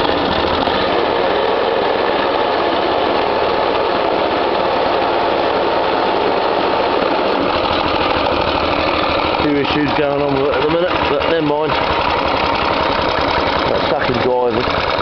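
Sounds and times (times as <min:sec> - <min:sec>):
lawnmower engine running: 0:00.0 - 0:15.0.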